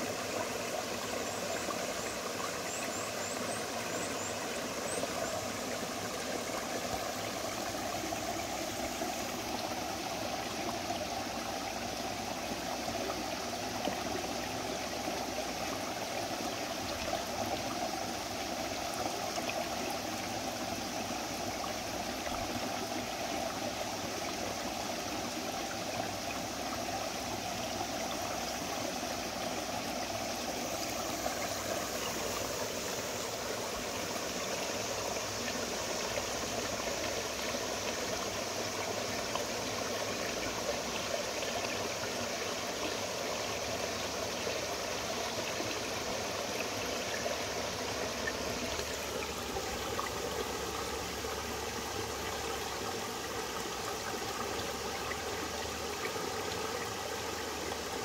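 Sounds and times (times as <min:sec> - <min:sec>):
mountain stream flowing: 0:00.0 - 0:58.0.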